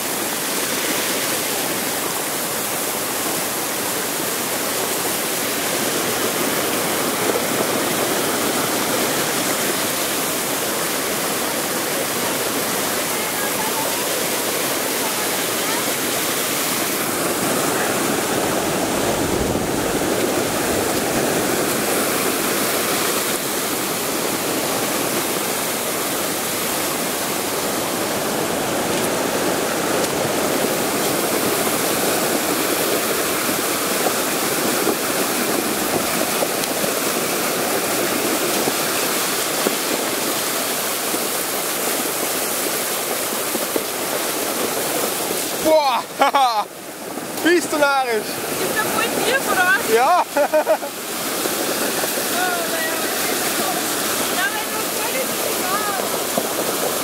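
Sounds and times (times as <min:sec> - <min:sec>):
floodwater rushing over rocks: 0:00.0 - 0:57.0.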